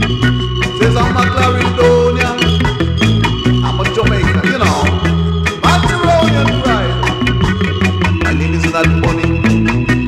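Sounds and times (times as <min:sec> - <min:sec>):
reggae music with bass line: 0:00.0 - 0:10.0.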